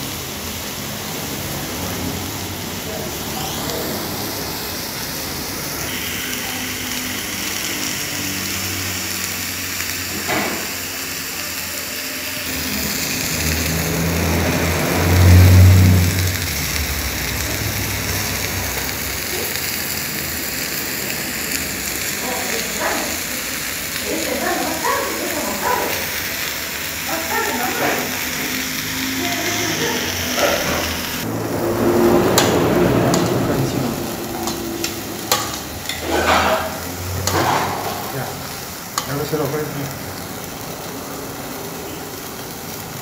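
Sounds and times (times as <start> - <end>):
food sizzling in frying: 0.0 - 43.0.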